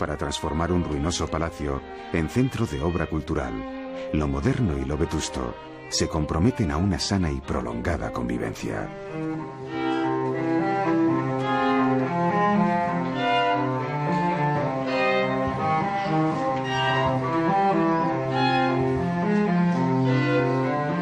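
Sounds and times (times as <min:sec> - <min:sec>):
cello line: 0:00.0 - 0:21.0
violins playing bowed notes: 0:00.0 - 0:21.0.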